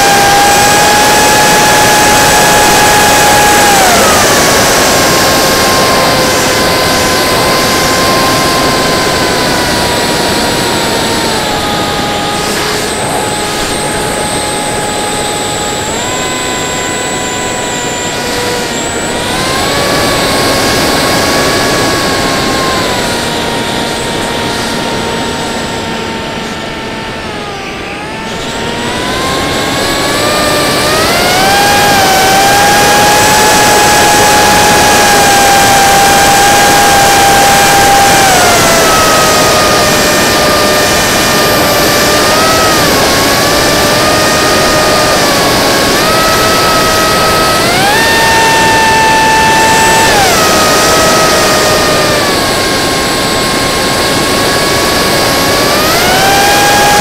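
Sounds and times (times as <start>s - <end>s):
electric motor whine: 0.0s - 57.0s.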